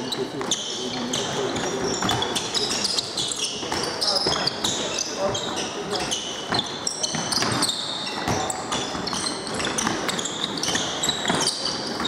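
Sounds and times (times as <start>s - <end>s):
sneakers squeaking on wooden floor: 0.0s - 12.0s.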